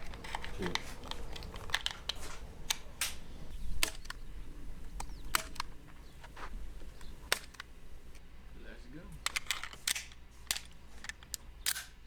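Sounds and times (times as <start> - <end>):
metallic clicks of pistol parts: 0.0 - 8.3, 9.1 - 12.0.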